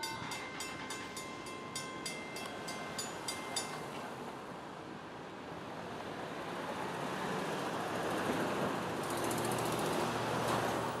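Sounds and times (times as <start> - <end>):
cars passing over rail crossing: 0.0 - 11.0.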